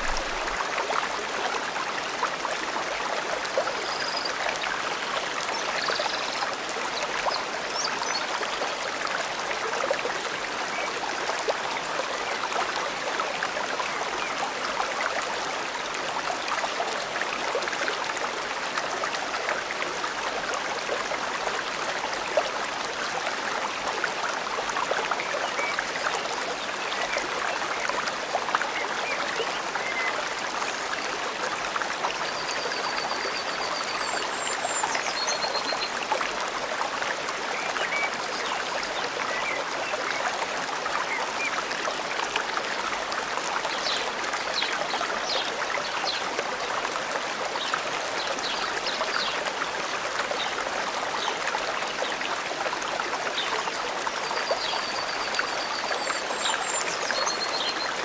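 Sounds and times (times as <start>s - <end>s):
forest stream flowing: 0.0s - 58.0s.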